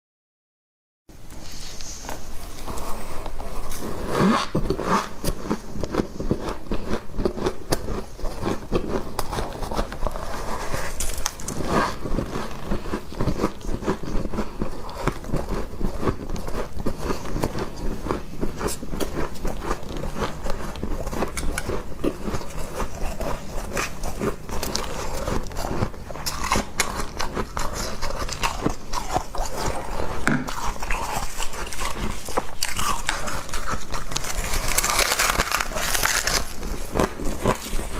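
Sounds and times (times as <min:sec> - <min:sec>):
person chewing crunchy frost: 0:01.9 - 0:37.9.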